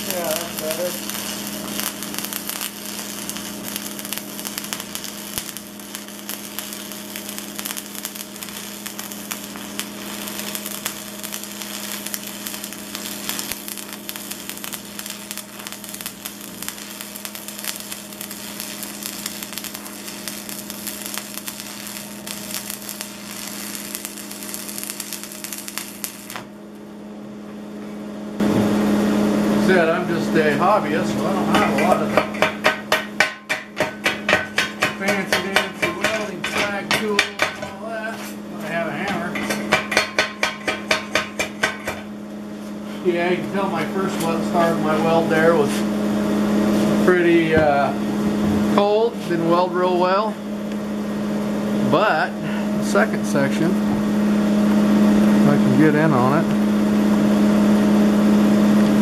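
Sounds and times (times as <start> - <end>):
welding arc crackling and sizzling: 0.0 - 26.9, 28.4 - 59.0
welder hum: 0.0 - 59.0.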